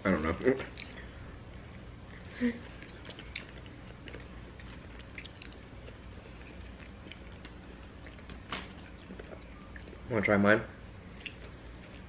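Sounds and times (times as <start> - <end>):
people chewing sandwiches: 0.5 - 10.4, 11.0 - 12.0.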